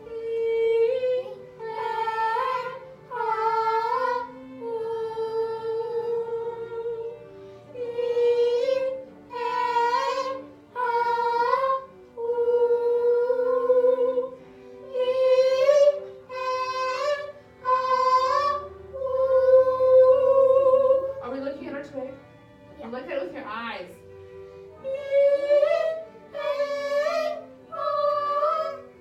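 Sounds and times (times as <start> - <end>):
children and woman singing held notes: 0.0 - 21.2, 24.7 - 29.0.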